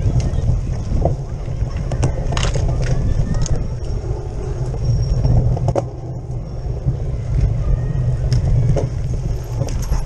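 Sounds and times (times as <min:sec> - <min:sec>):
bike clicks and rattles: 0:00.0 - 0:10.0
wind and ground vibration rumble: 0:00.0 - 0:10.0.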